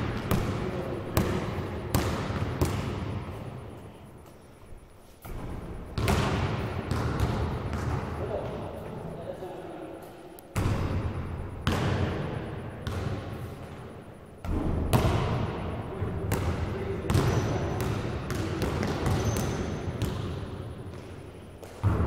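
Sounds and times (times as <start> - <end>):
basketball bouncing on gym floor: 0.0 - 3.6, 5.2 - 8.6, 10.5 - 22.0.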